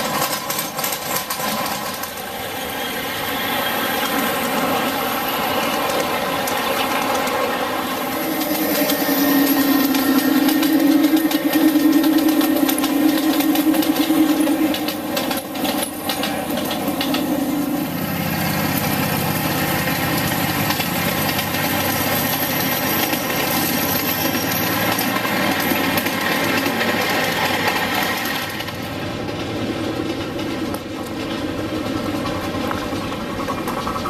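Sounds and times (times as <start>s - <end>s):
model locomotive engines running: 0.0s - 34.0s
wheels clicking over rails: 0.0s - 34.0s.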